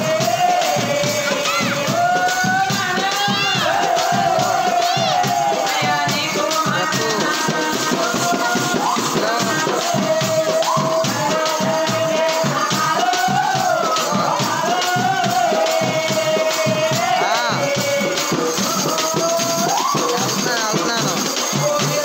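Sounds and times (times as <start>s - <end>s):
hand drums: 0.0s - 22.0s
man singing: 0.0s - 22.0s
small hand cymbals jangling: 0.6s - 22.0s.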